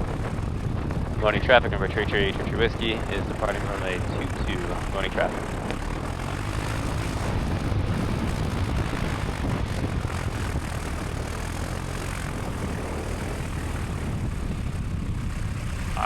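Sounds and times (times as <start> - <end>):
airplane engine and propeller: 0.0 - 16.0.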